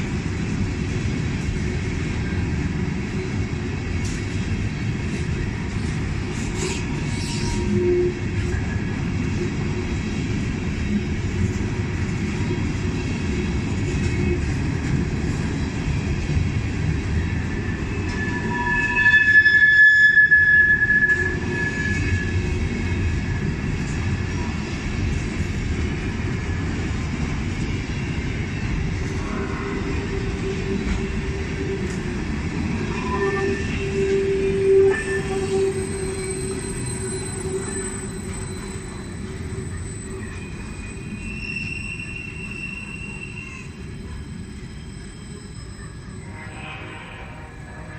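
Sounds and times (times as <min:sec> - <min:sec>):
freight train rumbling on rails: 0:00.0 - 0:47.9
train wheels squealing: 0:03.2 - 0:47.9.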